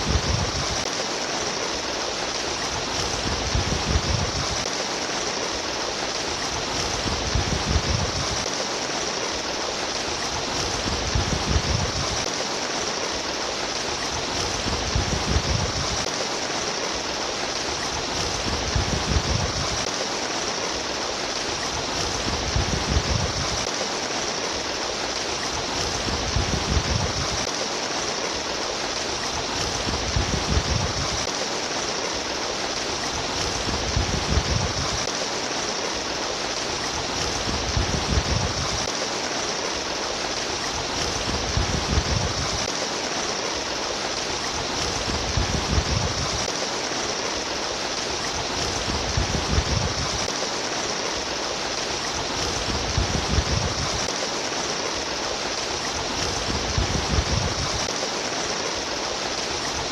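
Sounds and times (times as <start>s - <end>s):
stream of flowing water: 0.0s - 59.9s.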